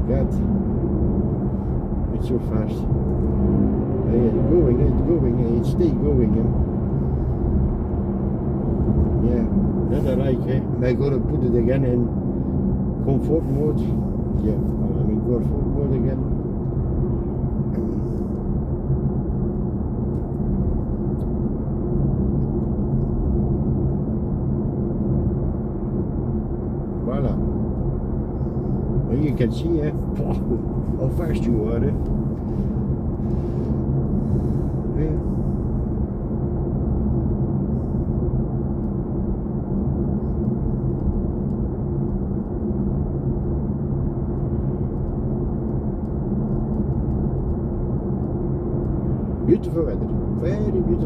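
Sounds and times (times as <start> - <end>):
low even hum: 0.0 - 51.0
road and tyre noise in car: 0.0 - 51.0.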